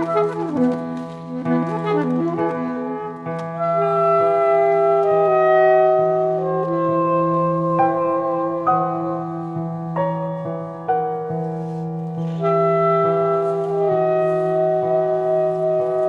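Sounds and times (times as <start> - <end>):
woodwind-like held notes: 0.0 - 10.2, 12.2 - 16.0.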